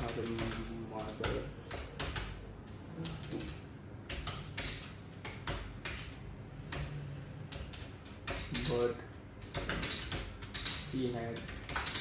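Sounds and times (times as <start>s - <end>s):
keyboard keys clicking: 0.0s - 12.0s.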